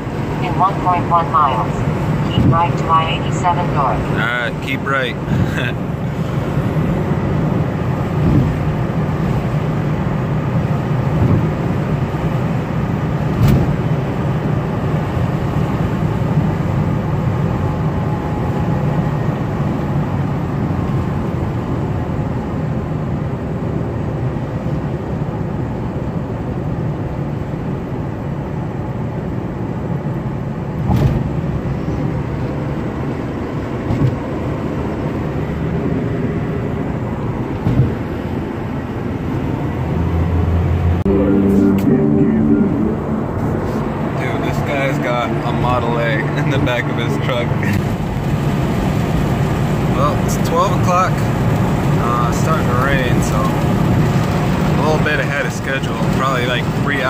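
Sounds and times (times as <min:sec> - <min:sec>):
road and engine noise inside vehicle: 0:00.0 - 0:57.0.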